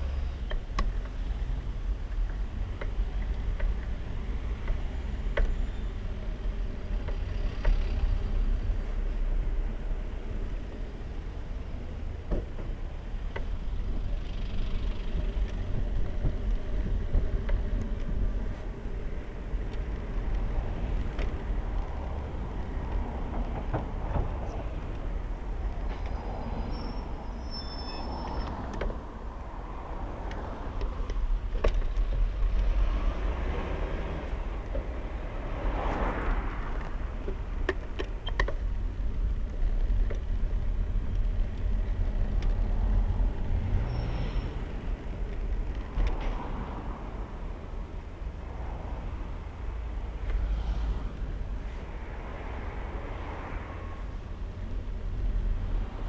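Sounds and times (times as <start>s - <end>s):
low rumble of traffic engines: 0.0s - 56.0s.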